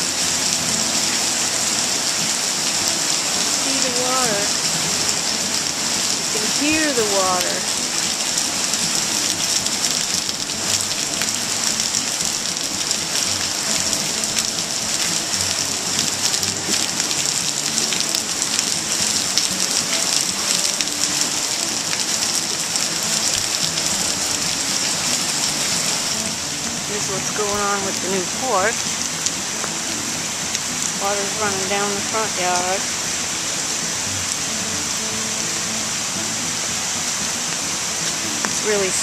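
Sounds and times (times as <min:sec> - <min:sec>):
heavy rain on foliage: 0:00.0 - 0:39.0
rushing brook: 0:00.0 - 0:39.0.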